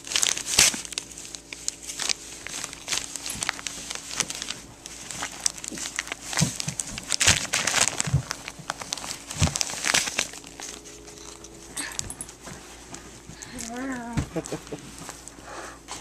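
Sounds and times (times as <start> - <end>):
dog chewing newspaper: 0.0 - 15.3.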